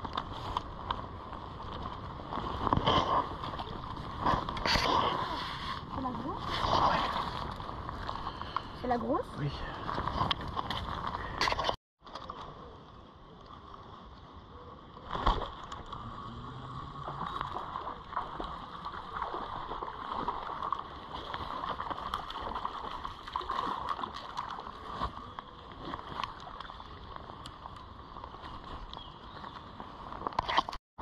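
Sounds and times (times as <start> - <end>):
small river running: 0.0 - 30.8.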